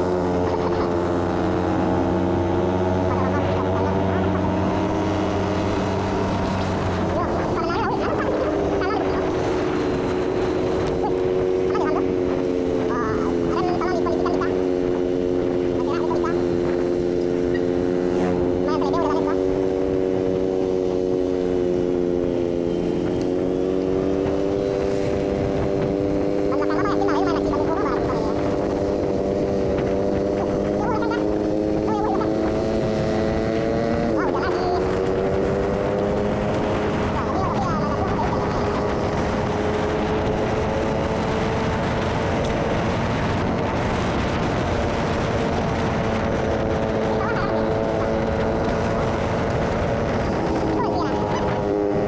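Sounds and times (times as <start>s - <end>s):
motorcycle engine cruising: 0.0s - 52.0s
wind and road noise: 0.0s - 52.0s.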